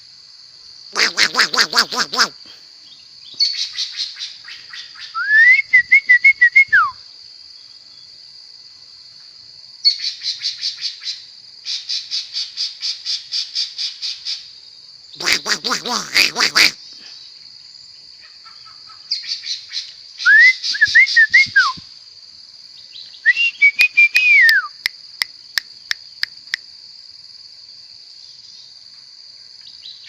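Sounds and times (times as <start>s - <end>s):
songbird singing: 1.0s - 8.4s, 9.0s - 26.7s, 27.7s - 30.0s.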